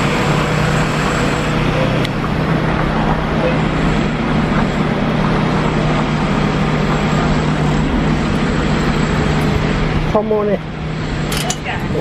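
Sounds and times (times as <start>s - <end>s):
mechanical rumble with low hum: 0.0s - 12.0s.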